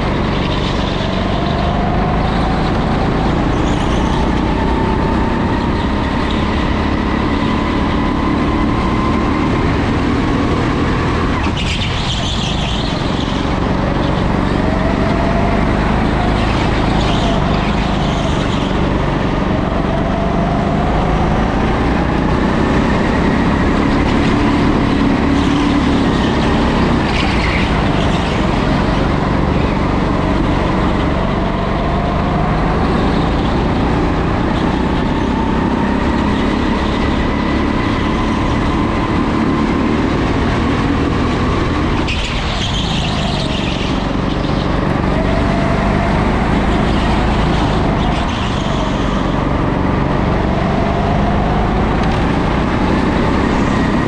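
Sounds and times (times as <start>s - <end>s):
go-kart motor revving: 0.0s - 54.0s.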